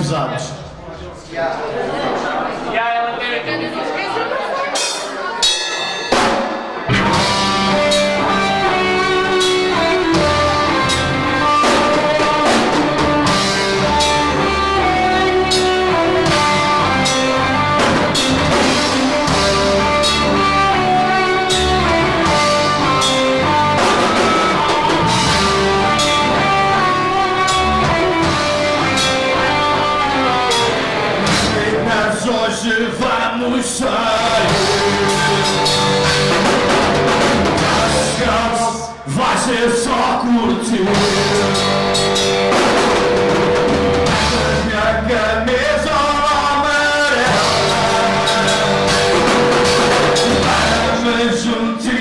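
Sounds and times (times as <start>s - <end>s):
live rock band playing: 4.6s - 52.0s.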